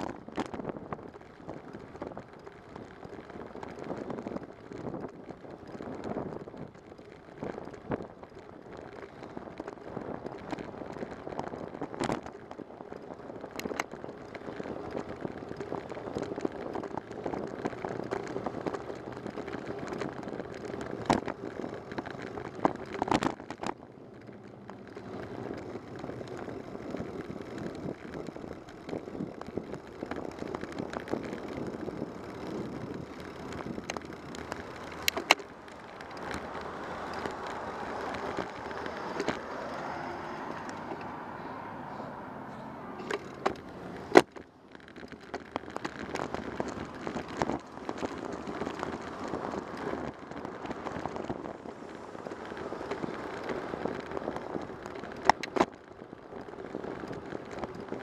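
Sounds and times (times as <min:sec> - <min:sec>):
bike clicks and rattles: 0:00.0 - 0:41.5, 0:42.5 - 0:58.0
bicycle tyre road noise: 0:00.0 - 0:58.0.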